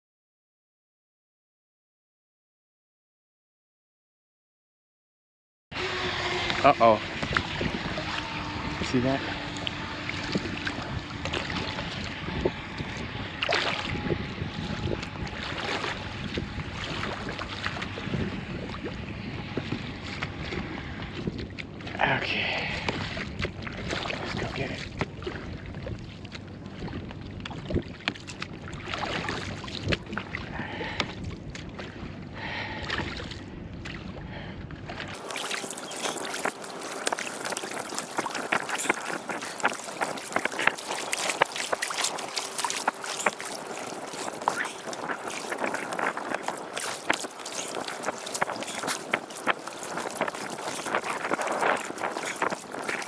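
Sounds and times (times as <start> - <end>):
wind rumble on microphone: 5.7 - 53.0
water sloshing around boat: 5.8 - 53.0.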